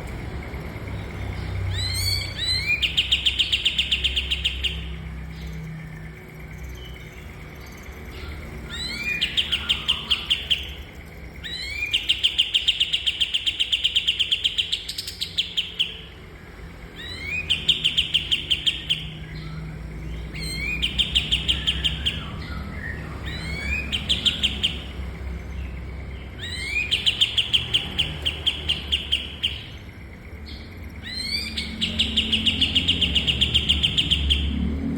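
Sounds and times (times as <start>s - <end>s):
songbird trilling song: 0.0s - 34.9s
steady low hum: 0.0s - 34.9s.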